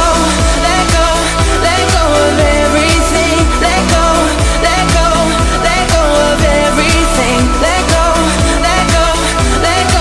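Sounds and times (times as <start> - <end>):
pop music with thumping beat: 0.0 - 10.0.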